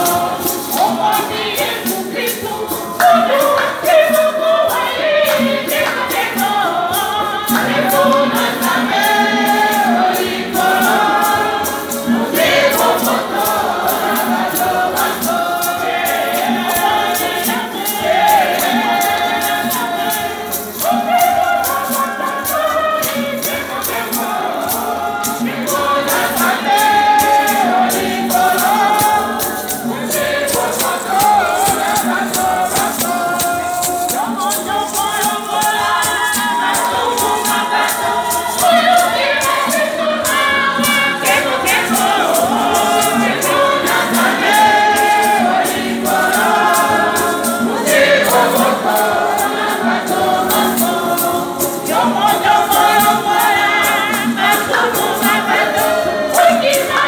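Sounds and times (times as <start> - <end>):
choir singing gospel: 0.0 - 57.0
hand rattle shaken: 0.0 - 57.0.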